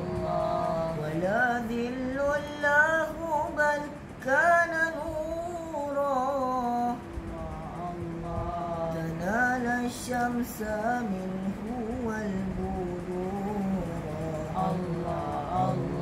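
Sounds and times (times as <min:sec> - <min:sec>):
boy singing: 0:00.0 - 0:16.0.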